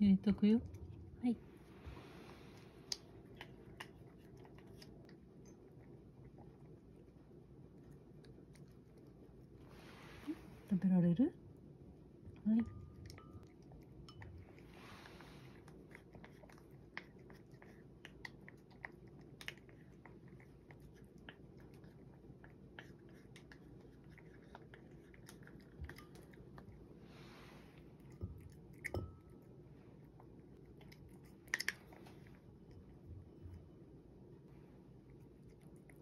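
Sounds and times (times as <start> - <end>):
cat chewing food: 0.6 - 10.7, 11.4 - 36.0.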